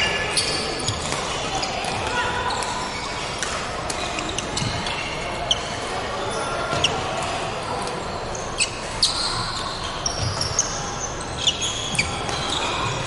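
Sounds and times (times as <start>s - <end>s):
court shoes squeaking: 0.0s - 13.0s.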